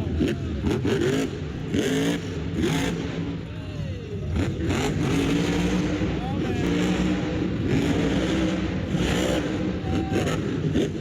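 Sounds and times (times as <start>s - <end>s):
truck engine revving: 0.0s - 3.5s, 4.2s - 11.0s.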